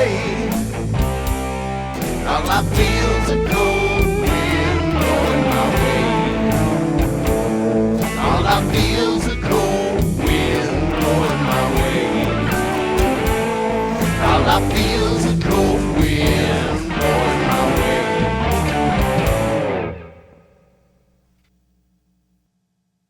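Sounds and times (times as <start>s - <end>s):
steady drum beat: 0.0s - 19.7s
bass guitar: 0.0s - 20.6s
electric guitar: 0.0s - 20.6s.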